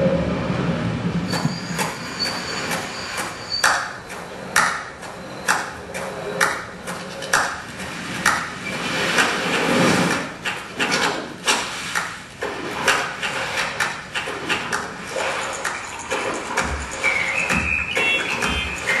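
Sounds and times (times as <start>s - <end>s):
hazy background noise: 0.0s - 19.0s
knocks and clicks: 1.3s - 19.0s.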